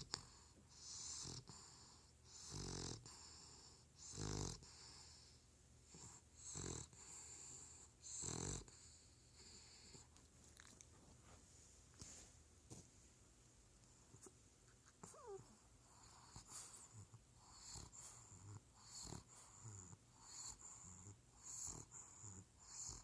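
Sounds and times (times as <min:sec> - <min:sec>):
puppy snoring: 0:00.0 - 0:10.8, 0:14.2 - 0:23.0.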